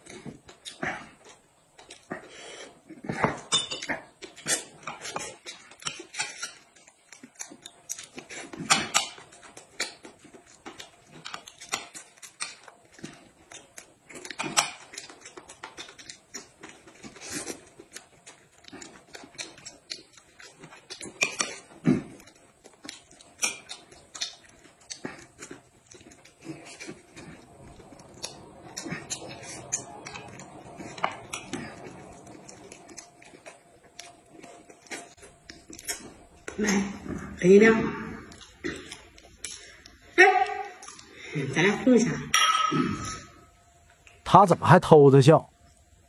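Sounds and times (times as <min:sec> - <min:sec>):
people chewing and lip-smacking: 0:00.0 - 0:37.4, 0:38.2 - 0:41.6.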